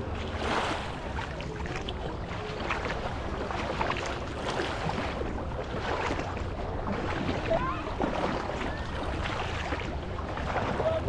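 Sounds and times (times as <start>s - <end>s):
sea waves washing: 0.0s - 11.0s
wind rumbling on microphone: 0.0s - 11.0s.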